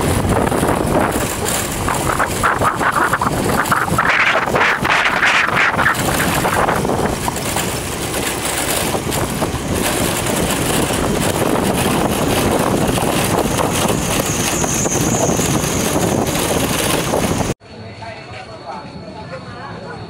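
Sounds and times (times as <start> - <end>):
motorbike engine: 0.0 - 17.6
wind noise on microphone: 0.0 - 17.6.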